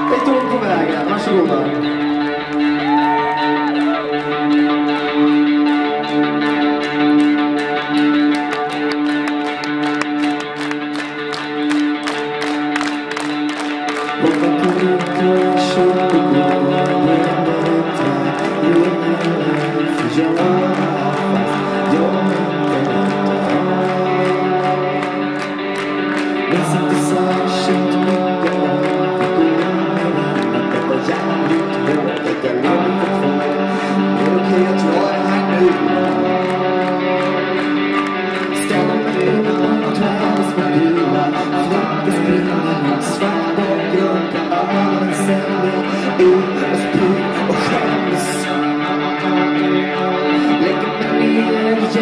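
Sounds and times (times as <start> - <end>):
man singing: 0.0 - 9.7, 13.0 - 52.0
guitar strumming: 0.0 - 52.0
rock band playing: 0.0 - 52.0.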